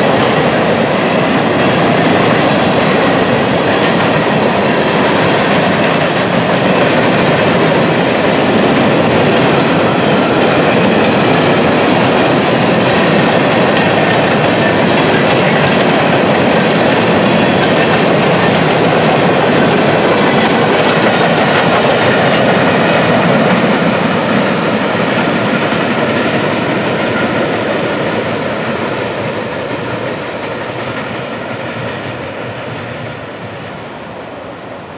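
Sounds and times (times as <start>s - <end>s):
freight cars rolling on rails: 0.0s - 34.9s.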